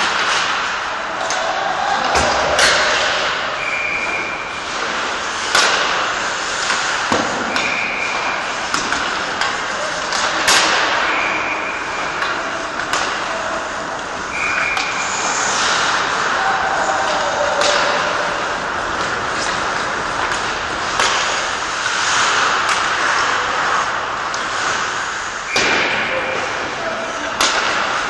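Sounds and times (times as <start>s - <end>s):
pucks hitting boards: 0.0s - 28.0s
skates scraping ice: 0.0s - 28.0s
sticks striking pucks: 0.0s - 28.0s.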